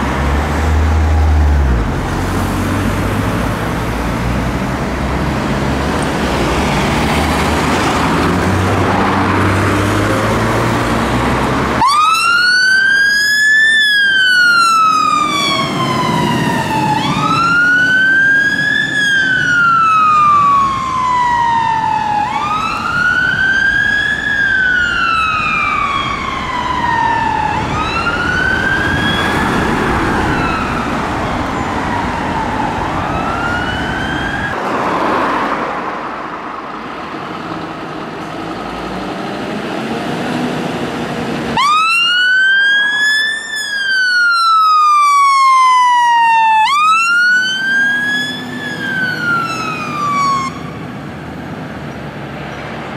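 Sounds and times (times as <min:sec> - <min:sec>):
fire engine siren wailing: 0:00.0 - 0:36.8, 0:39.3 - 0:51.8
engine and road noise: 0:00.0 - 0:52.9.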